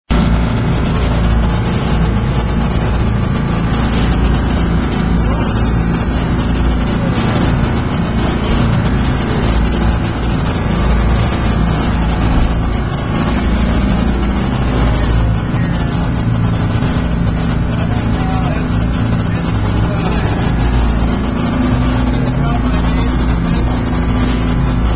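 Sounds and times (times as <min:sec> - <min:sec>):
ferry engine drone: 0:00.1 - 0:24.9
water rushing: 0:00.2 - 0:24.9.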